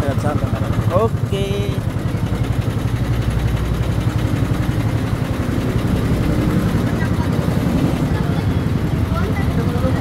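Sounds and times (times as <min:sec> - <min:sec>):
ride cars rumbling on track: 0:00.0 - 0:10.0.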